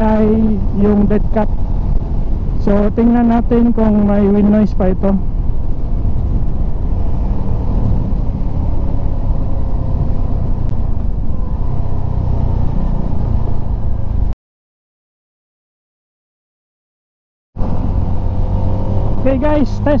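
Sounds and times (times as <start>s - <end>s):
motorcycle engine hum: 0.0s - 14.4s, 17.6s - 20.0s
wind and riding rumble: 0.0s - 14.4s, 17.6s - 20.0s.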